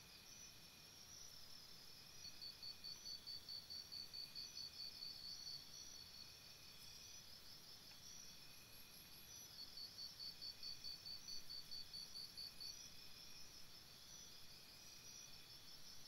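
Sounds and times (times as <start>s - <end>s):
insects chirping: 0.1s - 16.0s.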